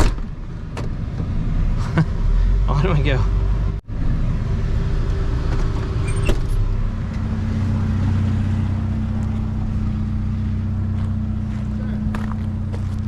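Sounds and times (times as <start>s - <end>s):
truck engine running: 0.2s - 13.0s.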